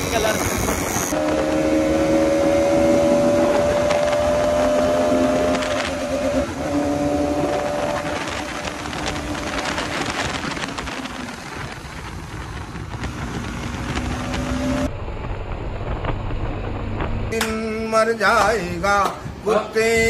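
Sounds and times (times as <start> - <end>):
motorcycle engine hum: 0.0 - 19.4
wind and road noise: 0.0 - 20.0.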